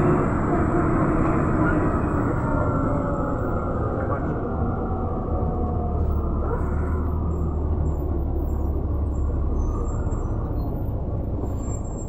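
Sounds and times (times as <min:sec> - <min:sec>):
bus engine drone: 0:00.0 - 0:12.0
road rumble: 0:00.0 - 0:12.0.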